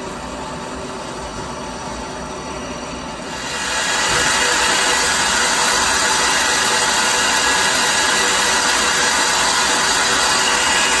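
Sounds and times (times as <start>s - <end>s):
lathe running: 0.0s - 11.0s.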